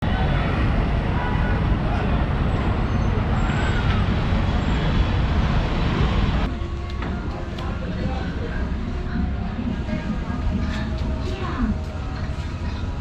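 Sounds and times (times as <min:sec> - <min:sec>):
indistinct voices: 0:00.0 - 0:13.0
road traffic: 0:00.0 - 0:13.0.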